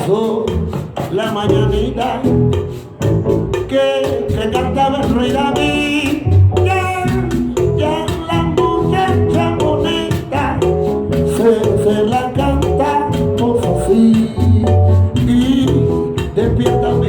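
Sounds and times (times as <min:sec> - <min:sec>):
salsa band music: 0:00.0 - 0:17.0.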